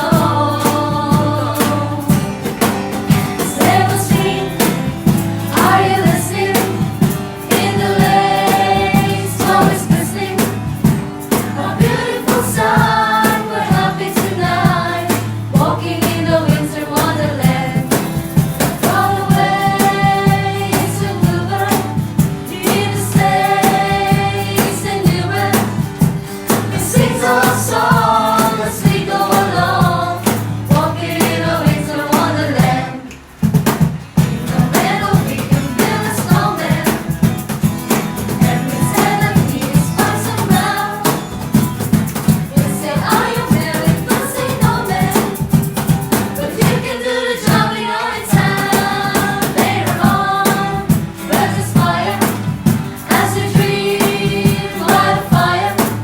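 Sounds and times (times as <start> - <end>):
several voices singing: 0.0 - 33.4, 34.2 - 56.0
drum beat: 0.0 - 56.0.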